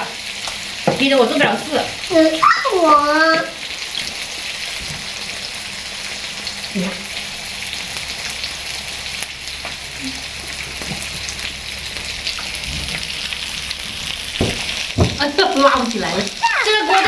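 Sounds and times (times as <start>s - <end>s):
food sizzling on a grill: 0.0s - 17.0s.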